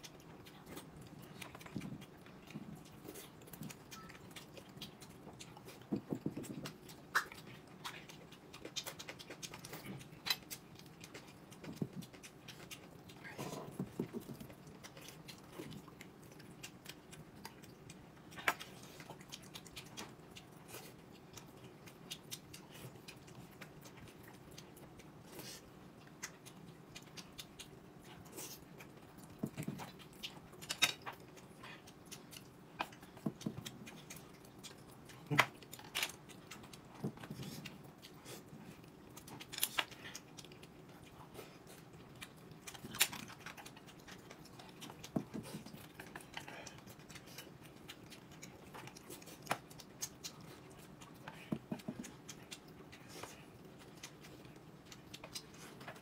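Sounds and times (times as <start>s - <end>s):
chewing and biting: 0.0s - 56.0s
faint steady hum: 0.0s - 56.0s.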